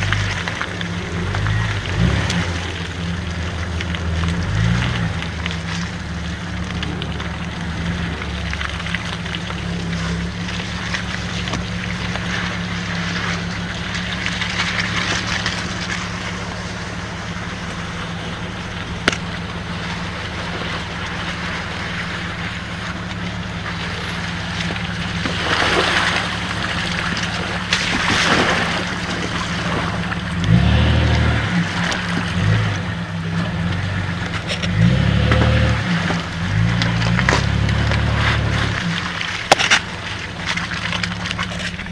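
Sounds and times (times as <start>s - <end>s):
engine running at low revs: 0.0s - 41.9s
water rushing and splashing: 0.0s - 41.9s.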